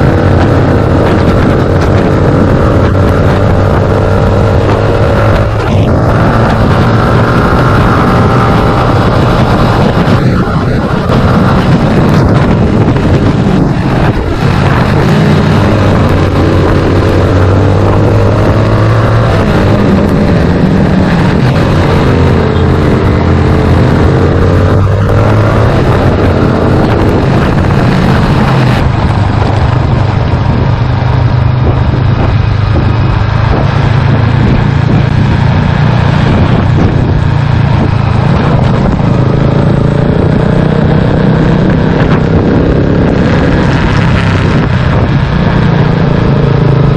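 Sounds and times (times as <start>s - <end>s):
motorcycle engine revving: 0.0s - 46.9s
steady rushing noise: 0.0s - 46.9s.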